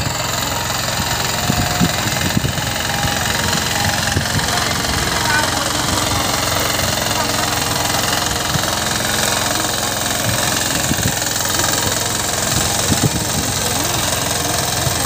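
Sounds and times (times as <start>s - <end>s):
power tiller engine running: 0.0s - 15.0s.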